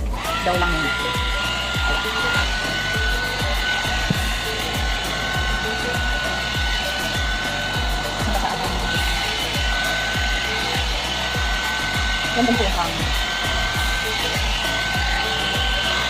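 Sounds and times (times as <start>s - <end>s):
background music with bass beat: 0.0s - 16.0s
hot air brush blowing: 0.0s - 16.0s.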